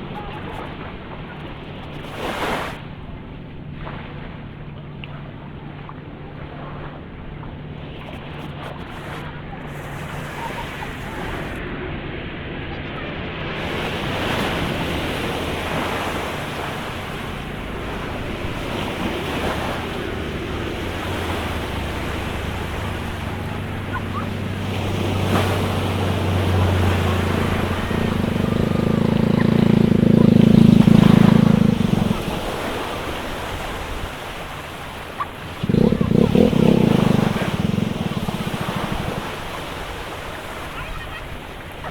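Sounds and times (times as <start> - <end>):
ocean surf washing ashore: 0.0 - 3.1, 6.4 - 41.9
wind buffeting the microphone: 8.2 - 41.9.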